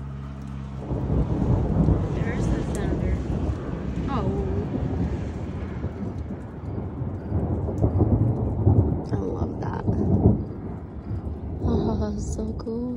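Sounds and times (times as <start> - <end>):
thunder rumbling: 0.0 - 12.9.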